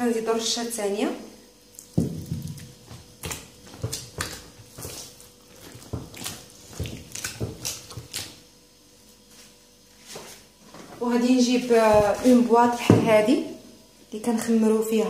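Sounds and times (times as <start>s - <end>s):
wet dough squelches: 1.6s - 13.6s.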